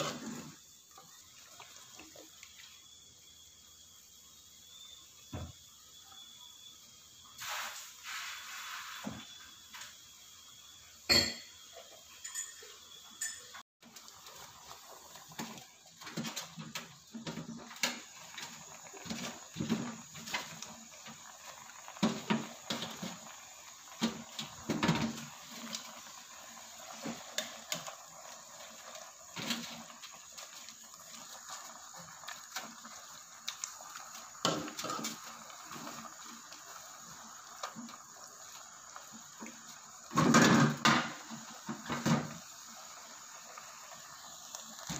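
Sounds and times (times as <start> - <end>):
soup boiling in pot: 0.0 - 44.9.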